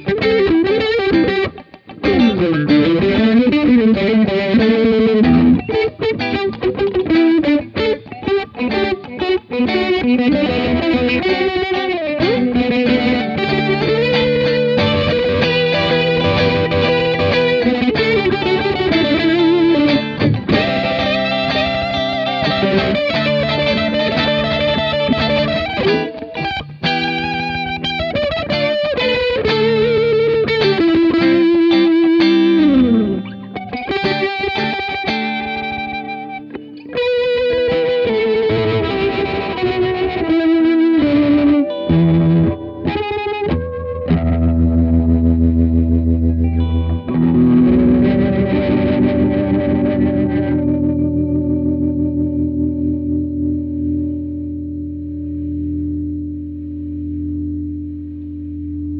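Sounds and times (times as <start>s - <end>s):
electric guitars with rotary effect: 0.0s - 58.9s.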